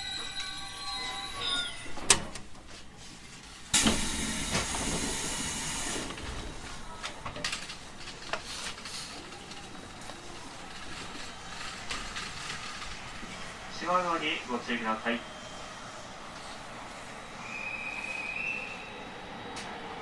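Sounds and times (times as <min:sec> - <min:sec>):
steady train noise: 0:03.2 - 0:20.0.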